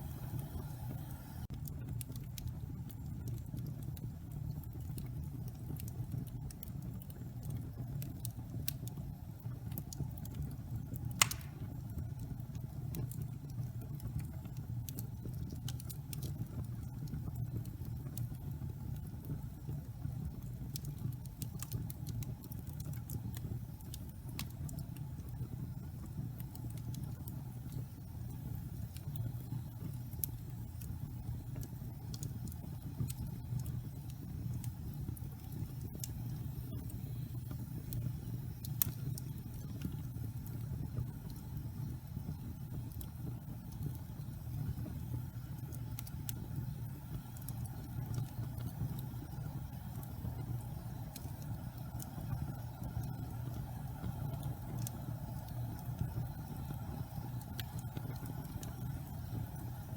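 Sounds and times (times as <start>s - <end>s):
logs crackling in fireplace: 0.0s - 59.9s
low rumble of flames: 0.0s - 59.9s.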